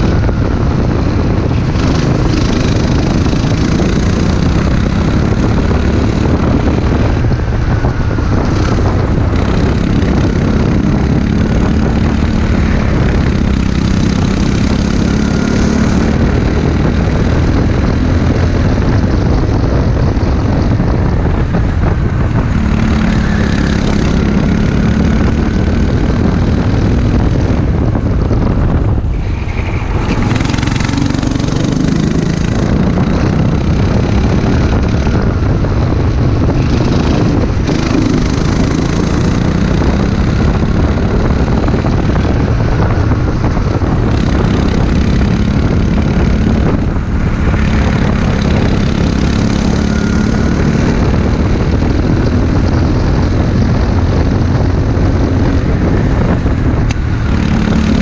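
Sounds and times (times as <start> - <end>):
kart engine revving: 0.0 - 20.7, 22.2 - 27.8, 29.1 - 58.0
wind on microphone: 0.0 - 58.0.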